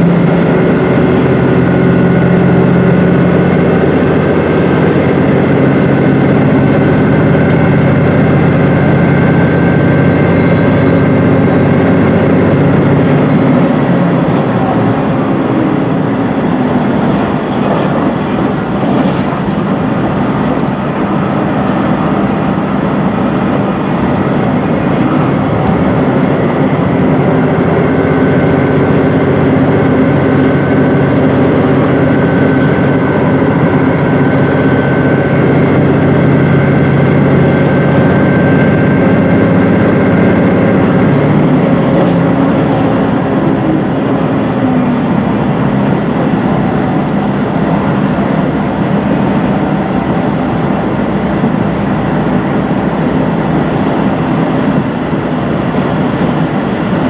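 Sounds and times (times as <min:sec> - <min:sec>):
diesel engine drone: 0:00.0 - 0:57.0
wheel and rail noise: 0:00.0 - 0:57.0.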